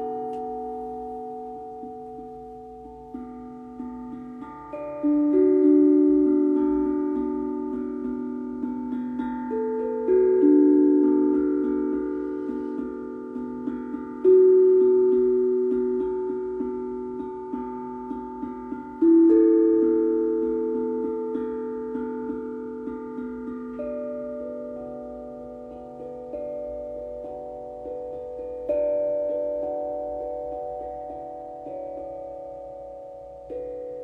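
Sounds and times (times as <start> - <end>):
steel tongue drum notes: 0.0 - 34.0.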